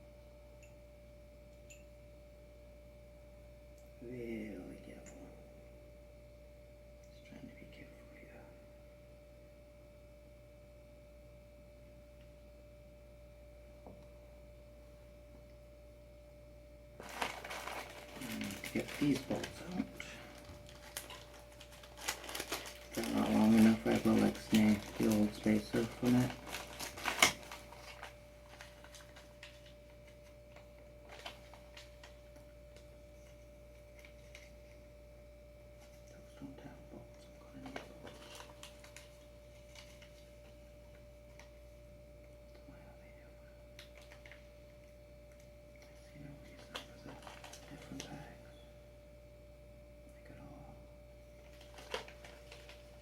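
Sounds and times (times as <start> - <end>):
faint steady hum: 0.0 - 53.0
faint steady whine: 0.0 - 53.0.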